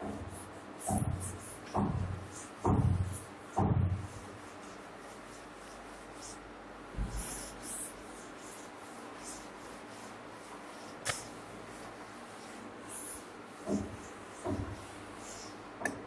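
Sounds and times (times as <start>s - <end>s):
cloth wiping chalkboard: 0.0s - 15.8s.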